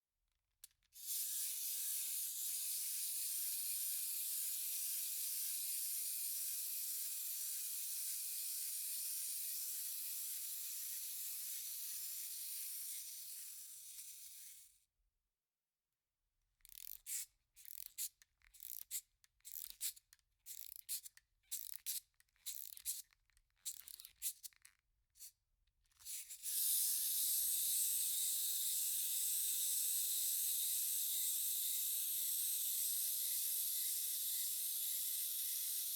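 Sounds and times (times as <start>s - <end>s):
wind-up toy clockwork whirr: 0.9s - 14.7s, 16.6s - 25.3s, 26.0s - 35.9s.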